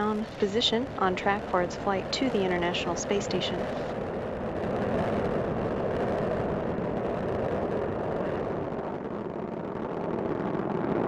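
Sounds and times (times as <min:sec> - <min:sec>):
rocket engine exhaust roar: 0:00.0 - 0:11.0.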